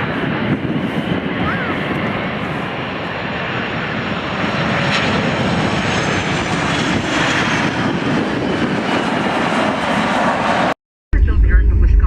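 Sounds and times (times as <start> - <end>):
high engine whine: 0.0 - 12.0
jet engines rushing: 0.0 - 12.0.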